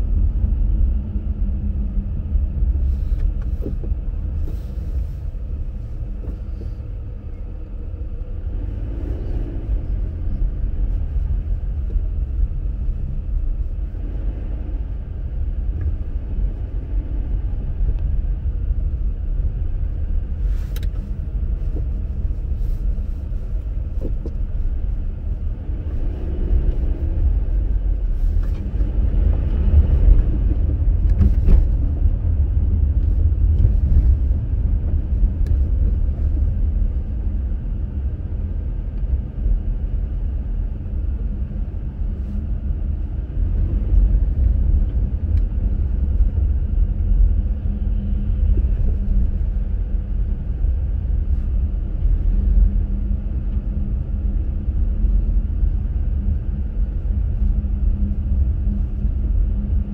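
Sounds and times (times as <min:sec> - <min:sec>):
engine hum: 0:00.0 - 0:59.9
tyre and road noise: 0:00.0 - 0:59.9.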